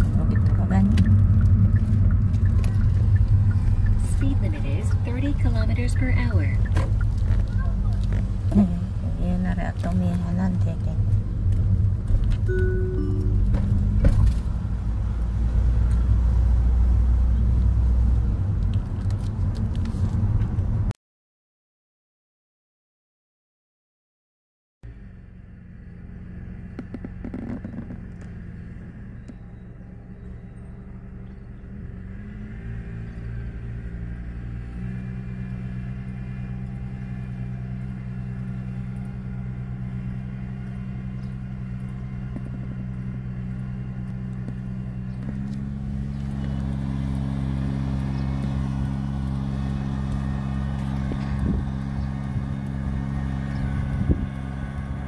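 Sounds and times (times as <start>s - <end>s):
farm machinery engine running: 0.0s - 16.0s, 24.9s - 55.0s.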